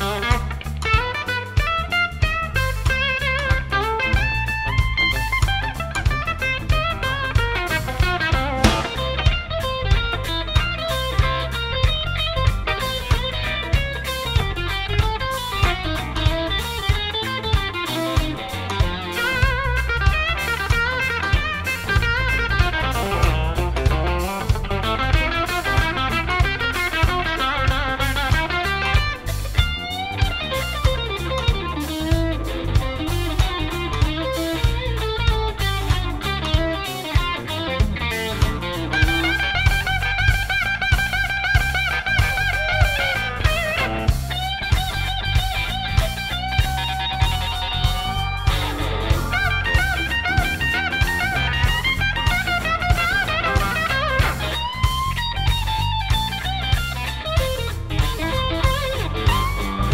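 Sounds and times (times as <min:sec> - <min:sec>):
bass guitar: 0:00.0 - 0:59.9
drum kit beat: 0:00.0 - 0:59.9
electric guitar: 0:00.0 - 0:59.9
keyboard: 0:00.0 - 0:59.9.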